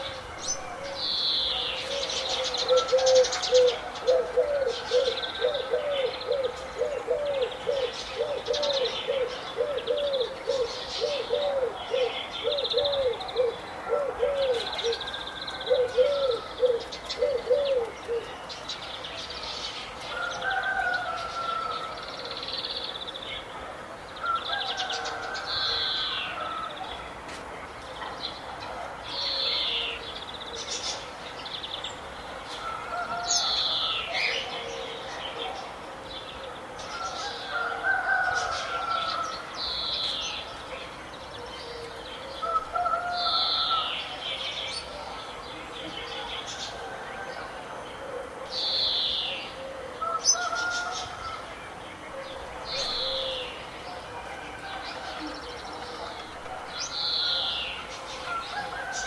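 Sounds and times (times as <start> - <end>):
birds chirping and trilling: 0.0 - 27.1, 27.8 - 59.0.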